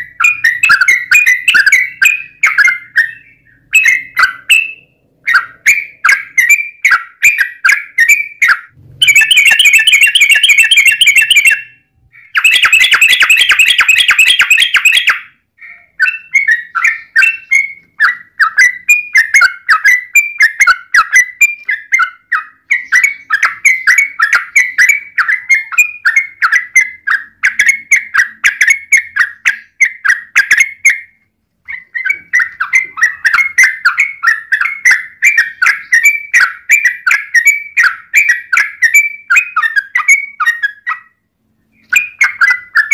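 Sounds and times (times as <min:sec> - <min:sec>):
bird chirping and trilling: 0:00.0 - 0:42.9.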